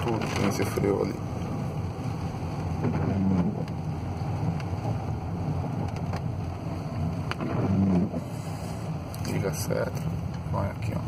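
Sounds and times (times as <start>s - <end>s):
car engine rumble: 0.0s - 11.0s
tyre noise on wet road: 0.0s - 11.0s.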